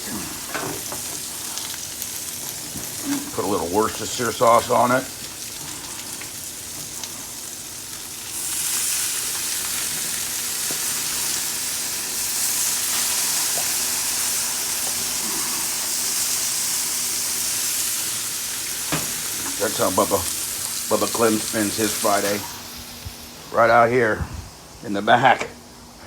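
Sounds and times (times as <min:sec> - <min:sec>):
meat sizzling on a grill: 0:00.0 - 0:25.4.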